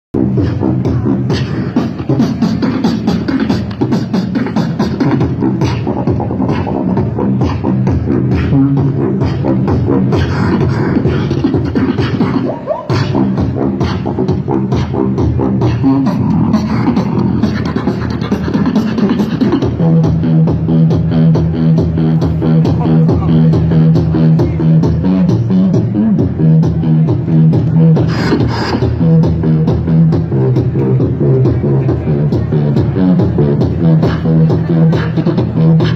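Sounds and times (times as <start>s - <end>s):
beatboxing through a speaker: 0.2s - 35.9s
hummed bass notes: 0.2s - 35.9s.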